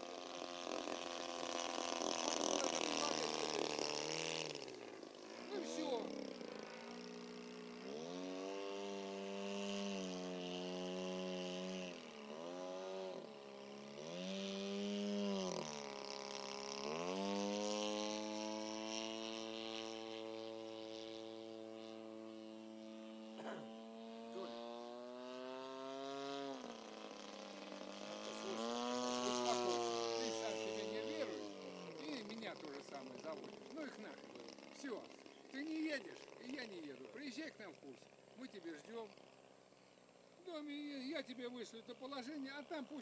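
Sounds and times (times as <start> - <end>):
model aircraft engine buzzing: 0.0 - 43.0.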